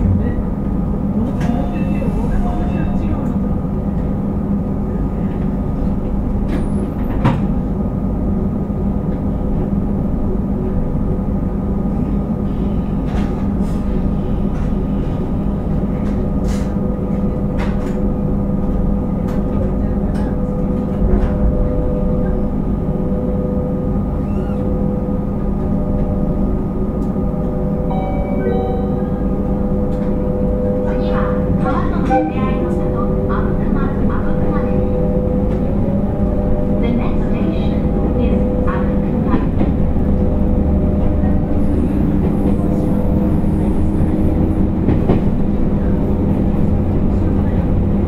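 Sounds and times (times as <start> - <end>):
electric train equipment humming: 0.0 - 48.0.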